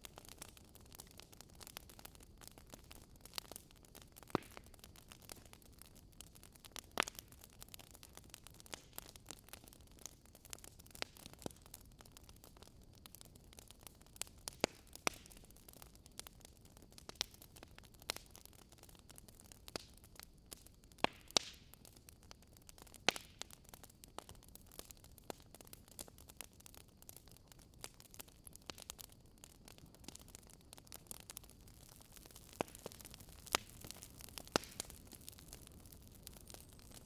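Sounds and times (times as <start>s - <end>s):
fire pops and snaps: 0.0s - 37.0s
soft fire hiss: 0.0s - 37.0s
wood fire crackling: 0.0s - 37.0s.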